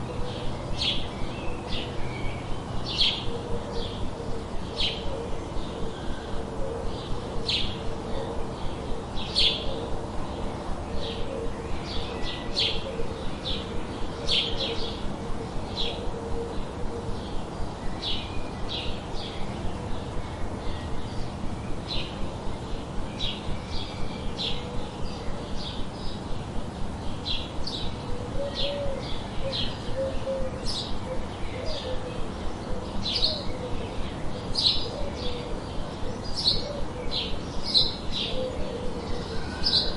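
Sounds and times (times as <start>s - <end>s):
birds chirping: 0.0s - 39.9s
low background noise: 0.0s - 39.9s.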